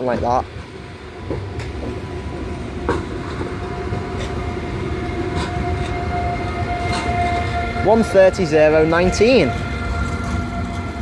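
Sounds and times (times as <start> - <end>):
electric train whine: 0.0 - 11.0
low train rumble: 0.0 - 11.0.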